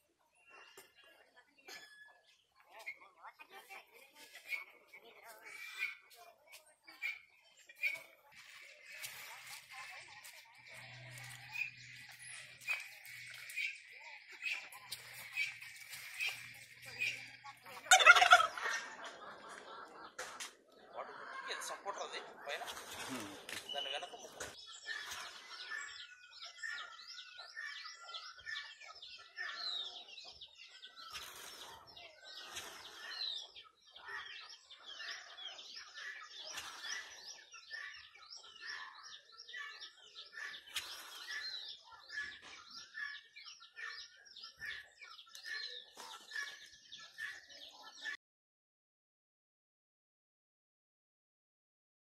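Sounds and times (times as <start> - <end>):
birds chirping: 0.0 - 48.2.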